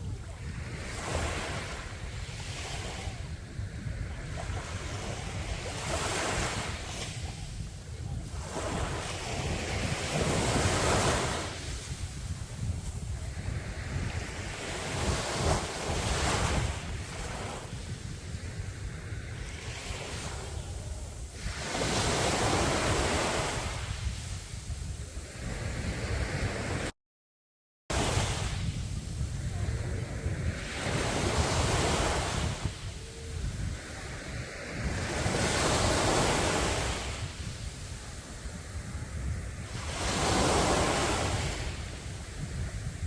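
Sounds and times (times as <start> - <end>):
sea waves breaking on beach: 0.0 - 26.9, 27.9 - 43.0
wind rumble on microphone: 0.0 - 26.9, 27.9 - 43.0.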